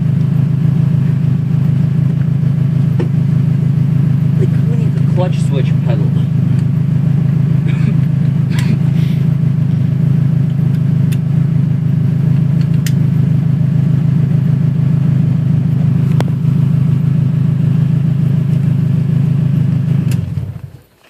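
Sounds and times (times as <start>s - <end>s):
car engine idling loudly: 0.0s - 20.9s.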